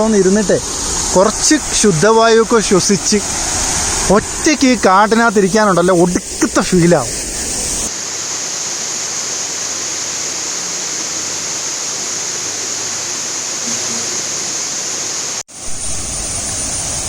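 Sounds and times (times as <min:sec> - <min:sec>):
small waterfall rushing: 0:00.0 - 0:17.0.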